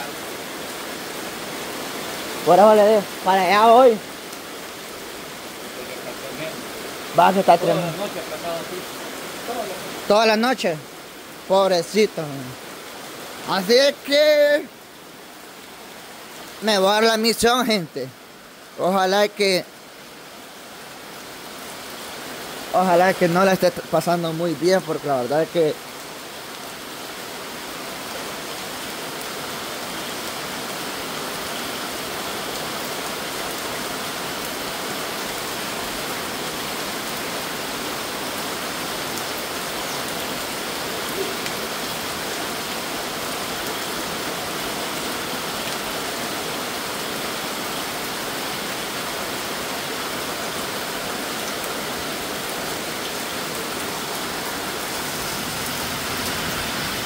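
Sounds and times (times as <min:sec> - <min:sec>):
heavy rain on concrete and puddles: 0:00.0 - 0:57.0.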